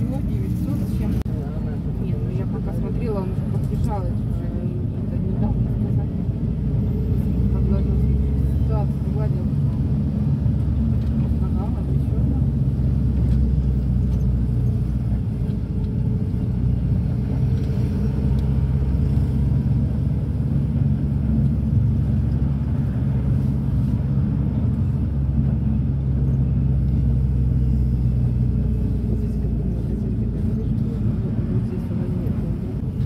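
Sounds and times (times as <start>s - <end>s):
engine drone inside vehicle: 0.0s - 33.0s
road rumble: 0.0s - 33.0s.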